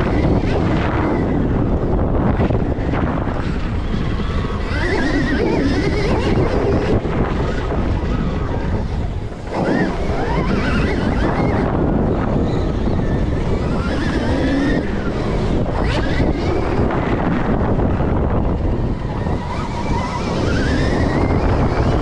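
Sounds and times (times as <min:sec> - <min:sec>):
electric motor whine: 0:00.0 - 0:22.0
wind rushing on microphone: 0:00.0 - 0:22.0.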